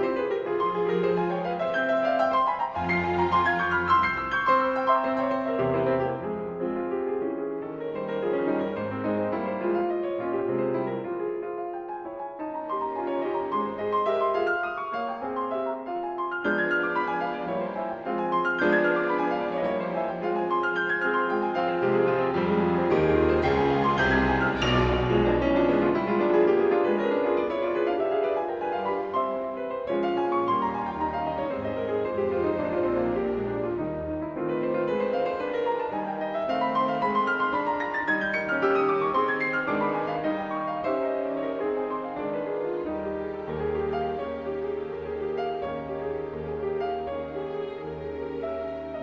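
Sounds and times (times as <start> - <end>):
slow classical piano music: 0.0 - 49.0.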